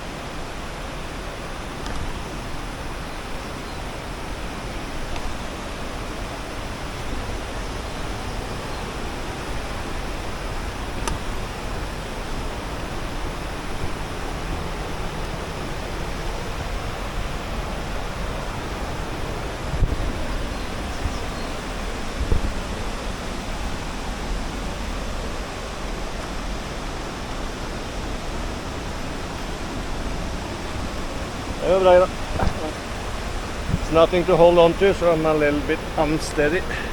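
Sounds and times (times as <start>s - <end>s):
river and waterfall rushing: 0.0s - 36.9s.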